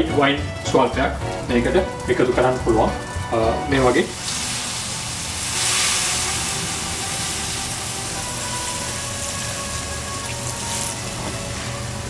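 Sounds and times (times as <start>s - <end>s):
wine sizzling in hot pan: 0.0s - 12.0s.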